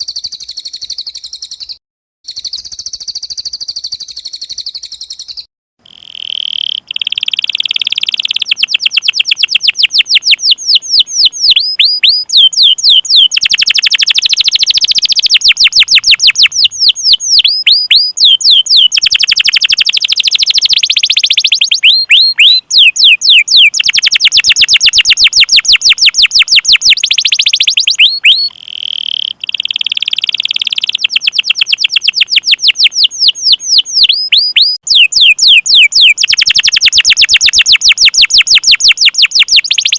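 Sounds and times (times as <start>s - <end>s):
songbird chirping trills: 0.0s - 39.9s.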